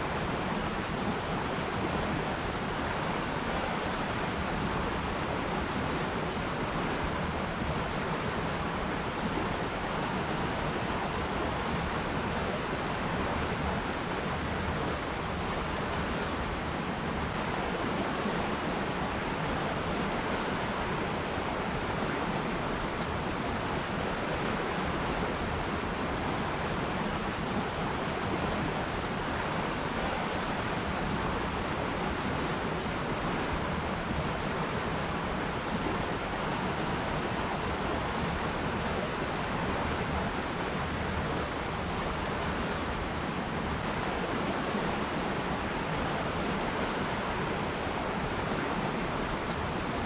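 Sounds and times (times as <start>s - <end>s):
river water flowing: 0.0s - 50.0s.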